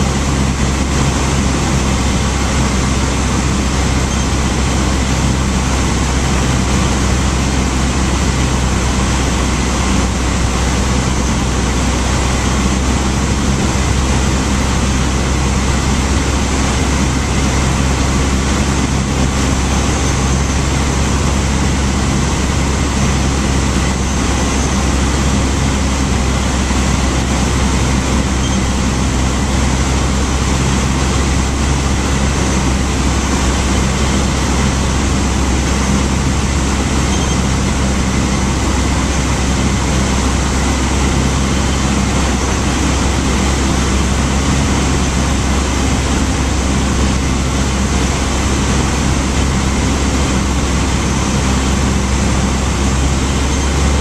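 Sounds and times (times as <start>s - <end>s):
small plane engine droning: 0.0s - 54.0s.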